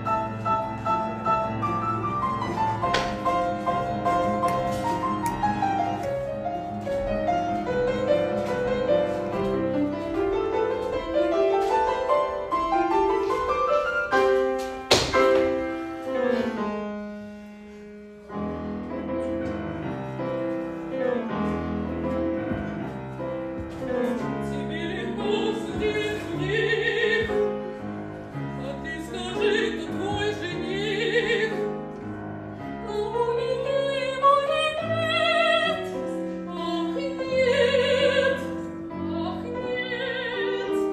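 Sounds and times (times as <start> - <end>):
piano accompaniment: 0.0 - 40.9.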